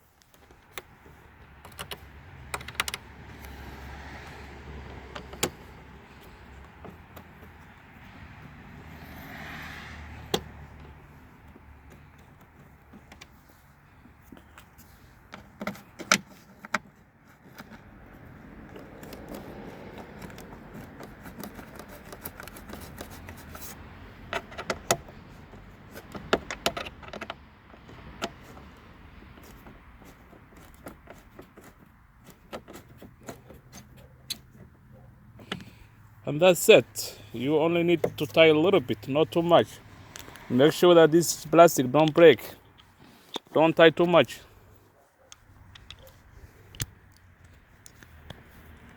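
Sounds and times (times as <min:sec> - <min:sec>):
handling rustle: 0:00.0 - 0:08.3, 0:10.2 - 0:48.9.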